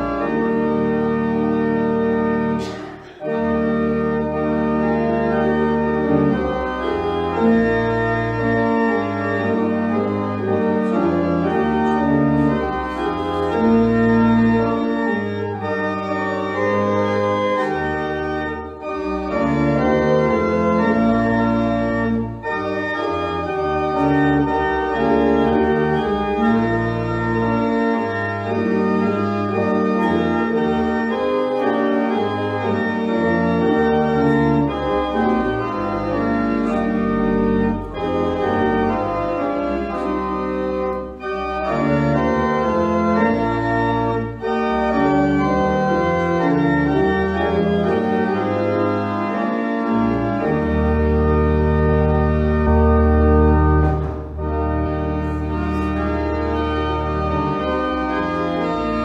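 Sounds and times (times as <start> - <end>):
pipe organ playing chords: 0.0 - 59.0.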